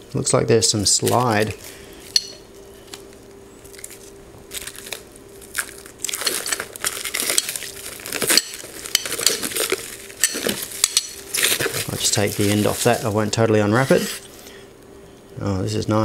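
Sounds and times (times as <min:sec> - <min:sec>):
plastic wrapping crinkling: 0:00.8 - 0:14.3.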